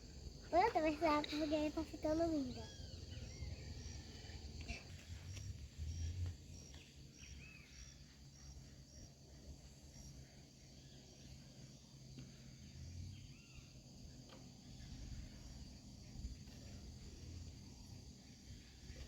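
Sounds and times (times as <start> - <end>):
insect chirping: 0.0 - 19.0
bird calls: 0.6 - 19.0.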